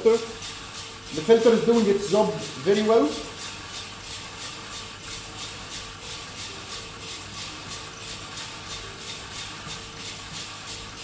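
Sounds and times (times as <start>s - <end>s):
coffee beans tumbling in drum: 0.0s - 11.0s
fan and drum motor hum: 0.0s - 11.0s.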